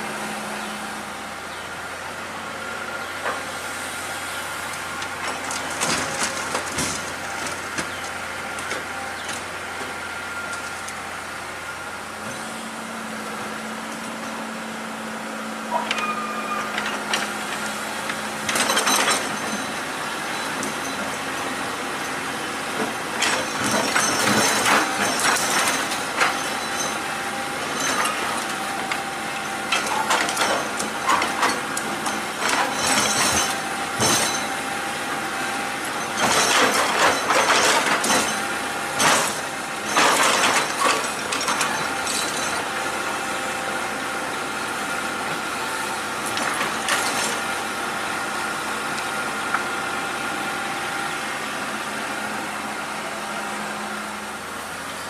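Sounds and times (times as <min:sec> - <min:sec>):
excavator engine whining: 0:00.0 - 0:55.0.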